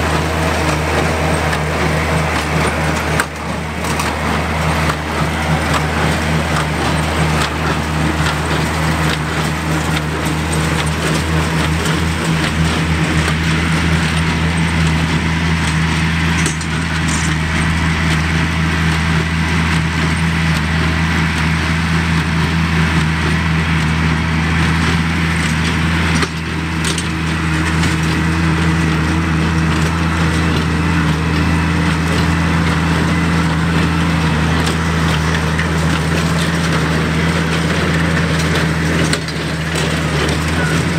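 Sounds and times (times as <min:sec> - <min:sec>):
baler clattering and crunching hay: 0:00.0 - 0:40.9
tractor engine running under load: 0:00.0 - 0:40.9.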